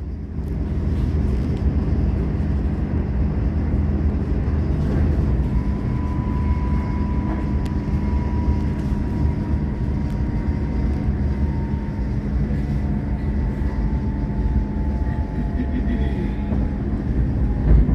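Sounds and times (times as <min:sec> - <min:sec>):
train rumbling: 0:00.0 - 0:17.9.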